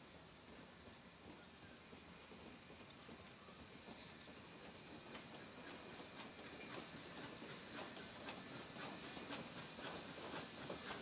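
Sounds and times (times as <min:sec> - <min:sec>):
distant steam locomotive: 0:00.0 - 0:11.0.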